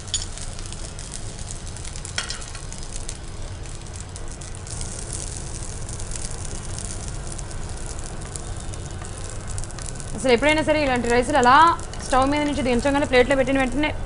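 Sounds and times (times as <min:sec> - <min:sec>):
rice sizzling in a pan: 0:00.0 - 0:13.8.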